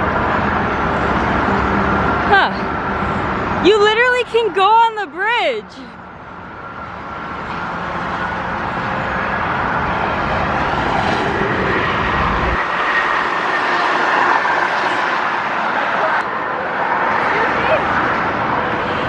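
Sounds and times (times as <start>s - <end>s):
engine roar: 0.0s - 19.0s.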